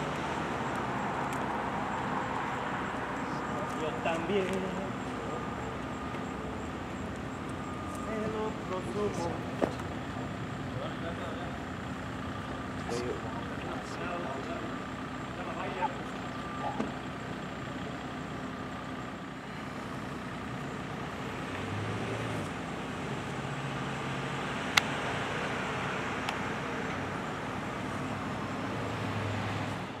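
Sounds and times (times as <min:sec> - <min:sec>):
road noise: 0:00.0 - 0:30.0
vehicle engines passing: 0:00.0 - 0:30.0.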